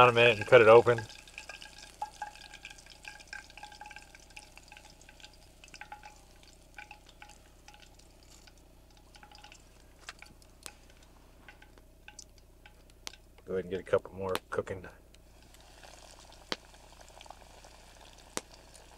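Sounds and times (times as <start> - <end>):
frying grease crackling: 0.0 - 18.9.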